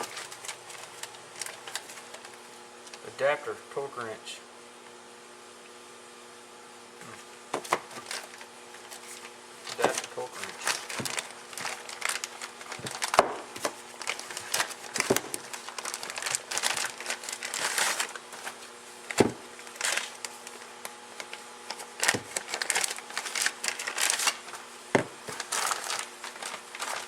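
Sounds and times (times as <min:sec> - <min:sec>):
plastic and paper crinkling: 0:00.0 - 0:03.0, 0:07.1 - 0:27.0.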